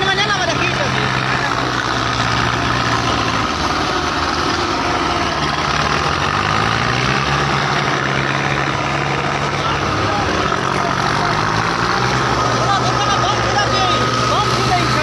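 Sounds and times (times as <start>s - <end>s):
tractor diesel engines droning: 0.0s - 15.0s.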